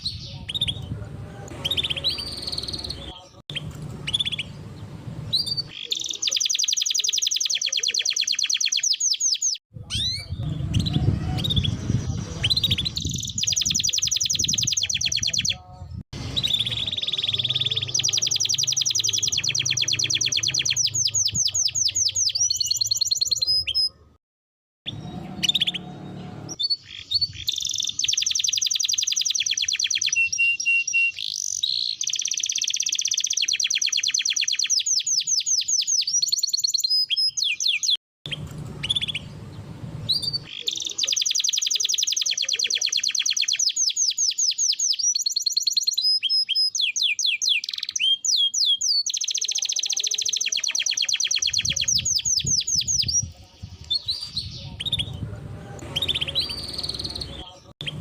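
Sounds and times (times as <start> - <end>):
canary singing trills: 0.0 - 24.2, 24.9 - 58.0.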